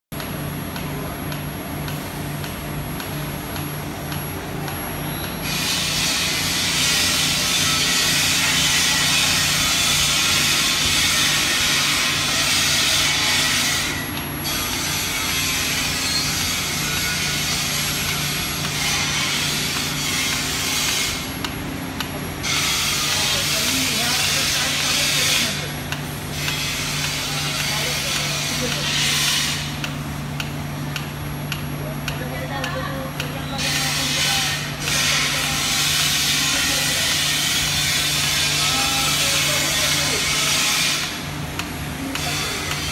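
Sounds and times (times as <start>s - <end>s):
pump motors humming: 0.2s - 42.9s.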